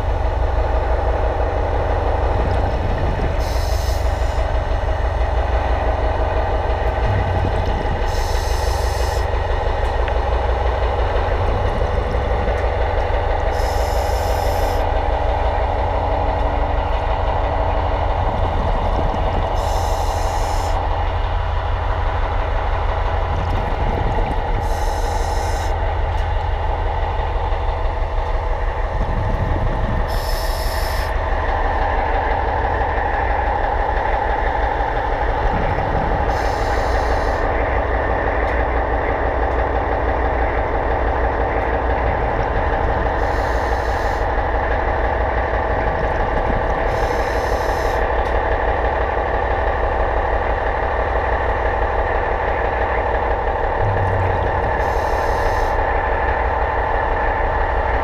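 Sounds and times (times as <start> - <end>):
underwater machine hum: 0.0 - 58.0.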